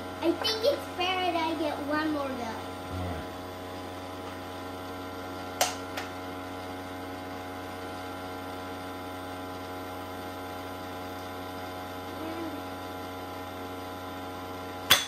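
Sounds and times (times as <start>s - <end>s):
blower fan motor hum: 0.0s - 15.0s.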